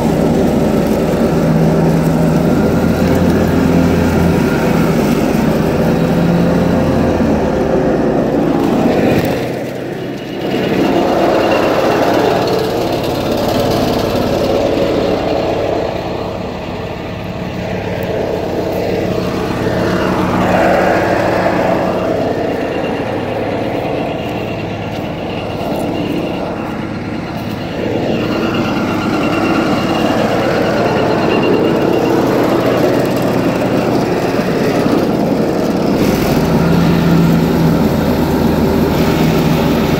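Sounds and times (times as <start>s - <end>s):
mower cutting grass: 0.0s - 39.9s
tractor engine running under load: 0.0s - 39.9s.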